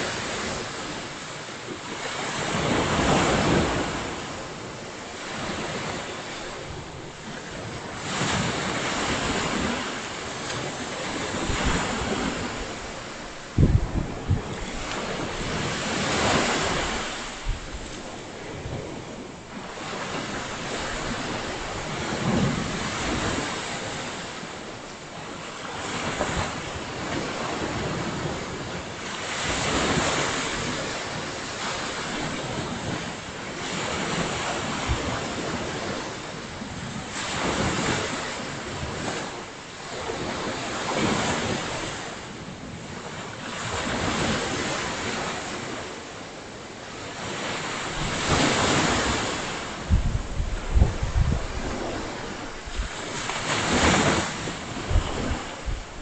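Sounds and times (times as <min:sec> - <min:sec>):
ocean waves breaking on beach: 0:00.0 - 0:56.0
wind on microphone: 0:00.0 - 0:56.0.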